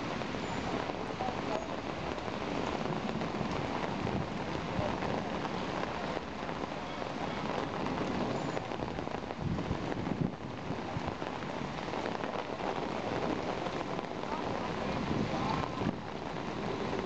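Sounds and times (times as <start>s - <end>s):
heavy rain pouring on pavement: 0.0s - 17.0s.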